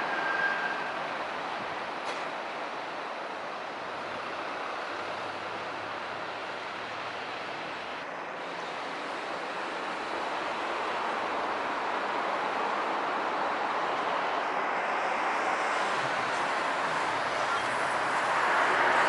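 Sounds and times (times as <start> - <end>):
city road traffic: 0.0 - 19.0
distant train: 0.0 - 19.0.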